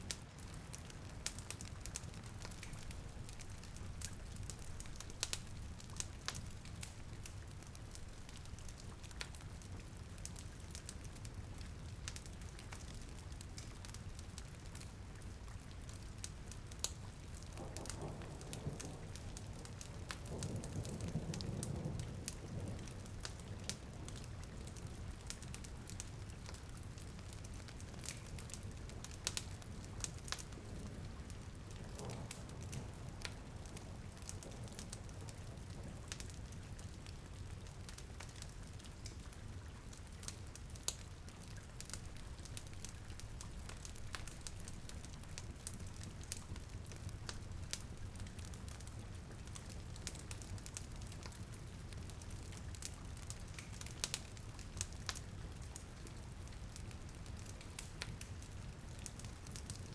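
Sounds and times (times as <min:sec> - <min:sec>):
fireplace crackling: 0:00.0 - 0:59.9
rain hiss: 0:00.0 - 0:59.9.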